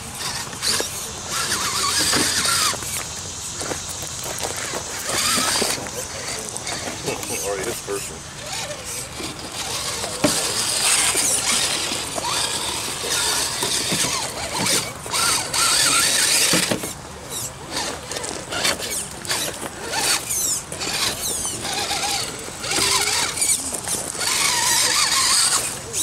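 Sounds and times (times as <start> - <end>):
electric motor whining: 0.0 - 26.0
tires scraping on stone: 0.0 - 26.0.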